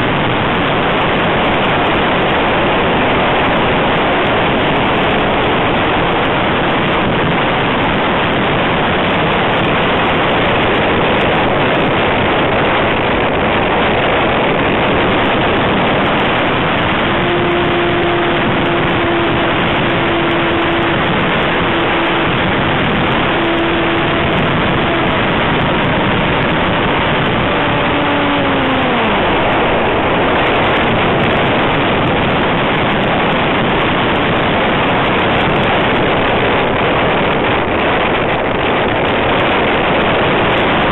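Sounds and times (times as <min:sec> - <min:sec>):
airplane motor humming: 0:00.0 - 0:36.2
air rushing over microphone: 0:00.0 - 0:40.9.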